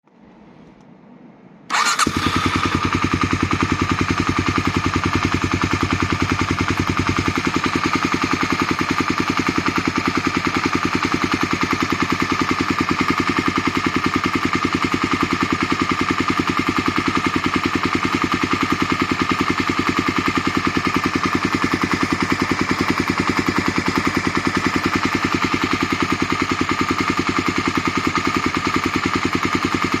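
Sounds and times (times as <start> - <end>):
motorcycle engine starting and idling: 1.7 - 30.0.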